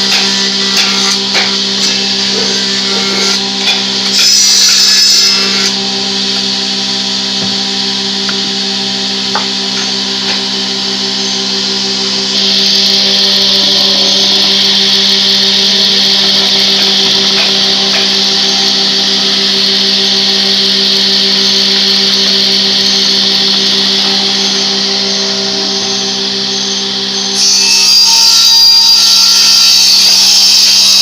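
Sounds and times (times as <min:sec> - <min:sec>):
power tool motor hum: 0:00.0 - 0:31.0.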